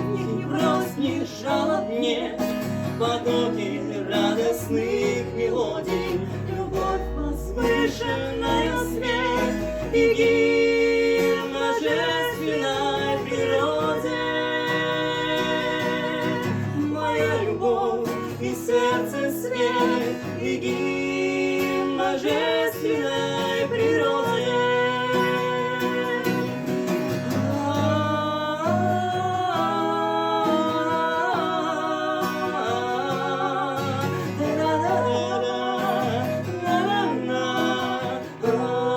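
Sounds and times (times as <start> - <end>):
acoustic guitar: 0.0 - 38.9
person singing: 0.0 - 38.9.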